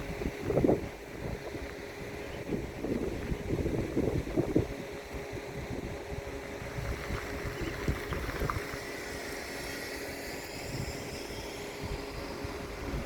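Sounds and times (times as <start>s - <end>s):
faint background hum: 0.0s - 13.0s
wind buffeting microphone: 0.0s - 13.0s.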